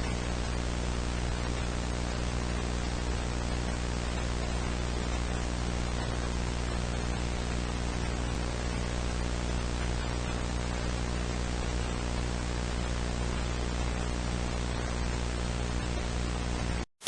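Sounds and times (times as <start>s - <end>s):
low buzzing hum: 0.0s - 16.9s
static hiss: 0.0s - 16.9s.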